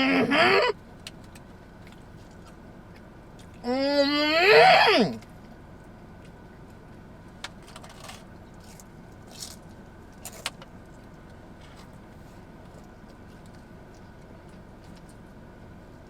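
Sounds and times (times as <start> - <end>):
low background hum: 0.0 - 16.0
faint clicks and rustles of food: 0.8 - 3.7, 5.2 - 16.0.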